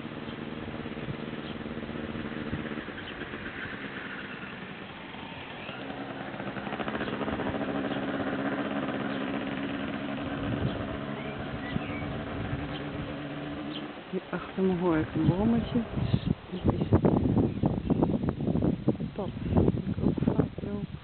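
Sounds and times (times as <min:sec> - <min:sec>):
moped engine running: 0:00.0 - 0:18.8.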